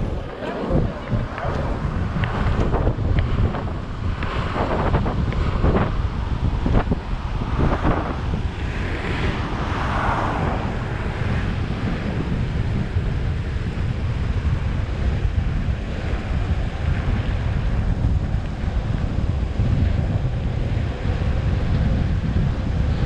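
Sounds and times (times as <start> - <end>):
wheels rumbling on asphalt: 0.0 - 23.0
wind buffeting microphone: 0.0 - 23.0.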